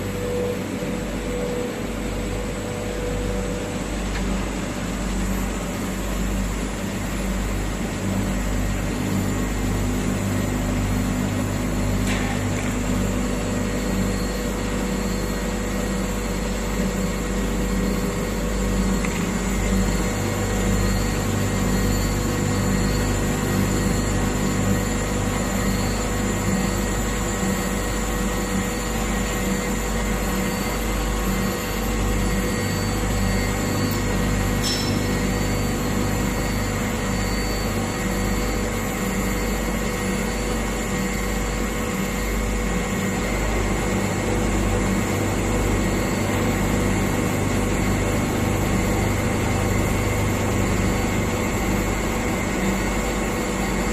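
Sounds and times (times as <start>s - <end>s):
grinding machine humming: 0.0s - 53.9s.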